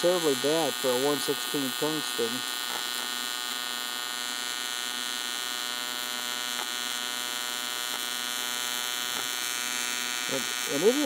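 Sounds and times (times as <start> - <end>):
welding arc buzzing: 0.0 - 11.0.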